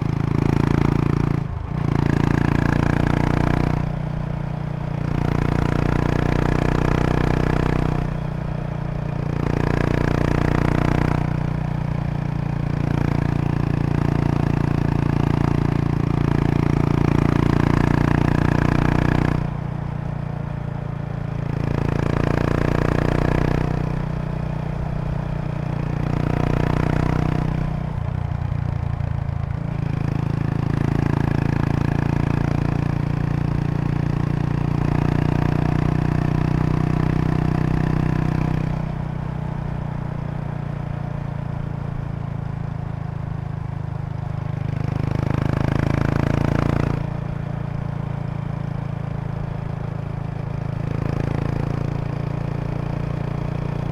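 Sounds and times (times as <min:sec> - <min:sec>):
motorcycle engine exhaust: 0:00.0 - 0:53.9.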